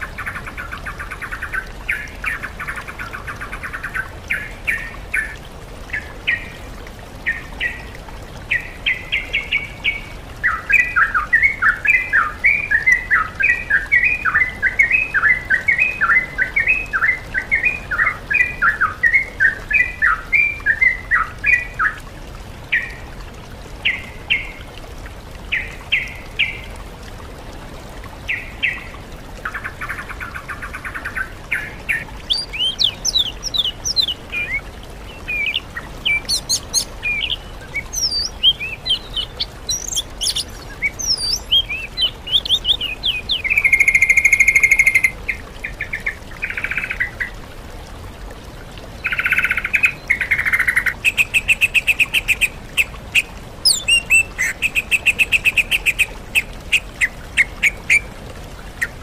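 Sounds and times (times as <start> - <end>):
songbirds singing: 0.0 - 22.1, 28.3 - 47.4, 49.0 - 58.1.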